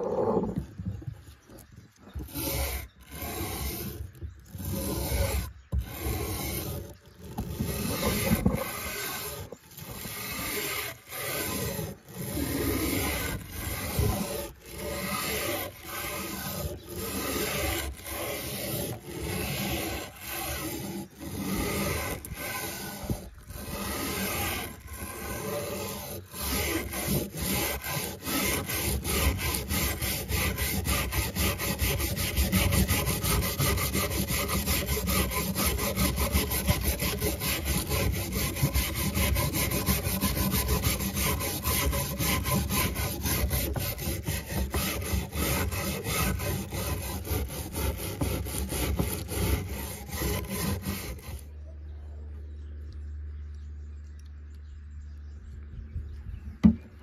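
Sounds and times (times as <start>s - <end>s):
wire brush scrubbing metal: 2.2s - 51.5s.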